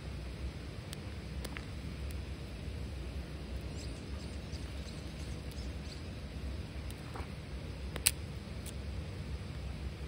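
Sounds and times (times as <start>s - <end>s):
campfire rumbling: 0.0s - 10.0s
fire crackling: 0.0s - 10.0s.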